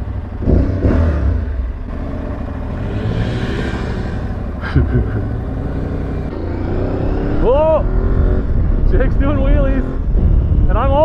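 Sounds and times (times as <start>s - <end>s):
motorcycle engine revving: 0.0s - 11.0s
motorcycle engines rumbling: 0.0s - 11.0s.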